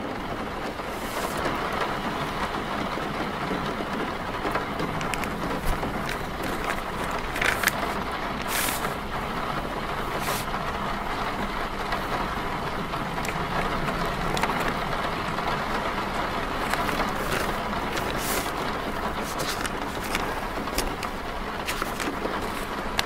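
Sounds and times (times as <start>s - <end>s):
rain hiss: 0.0s - 23.0s
road traffic rumble: 0.0s - 23.0s.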